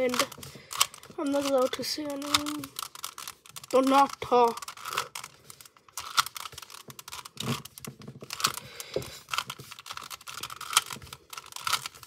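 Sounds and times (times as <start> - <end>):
puzzle cube layers clicking: 0.0 - 12.0.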